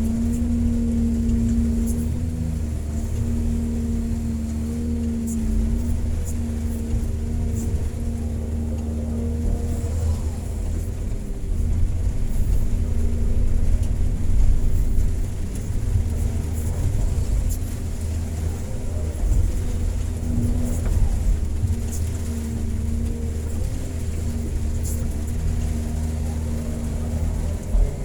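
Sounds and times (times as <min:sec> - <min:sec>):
excavator diesel engine droning: 0:00.0 - 0:28.0.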